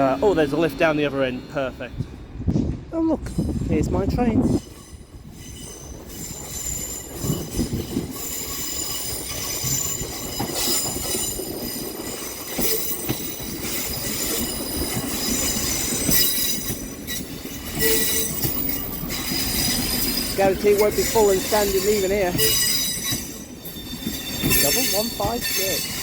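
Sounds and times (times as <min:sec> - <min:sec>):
train rumble: 0:00.0 - 0:26.0
brake and wheel squeals: 0:04.6 - 0:26.0.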